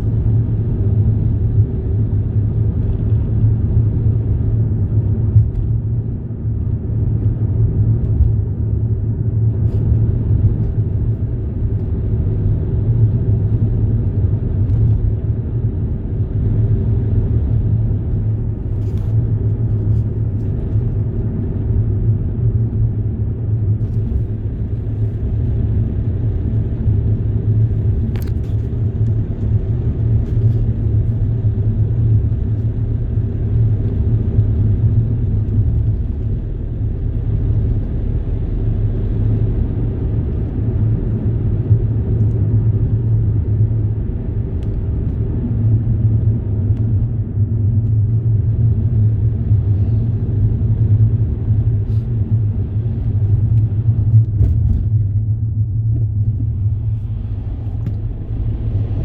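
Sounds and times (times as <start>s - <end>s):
road vehicle rumble: 0.0s - 59.0s.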